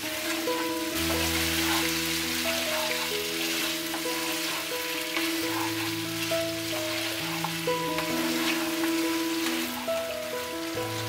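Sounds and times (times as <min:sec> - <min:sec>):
meat sizzling in oil: 0:00.0 - 0:11.0
soft background music: 0:00.0 - 0:11.0
wooden spatula scraping pan: 0:00.0 - 0:11.0.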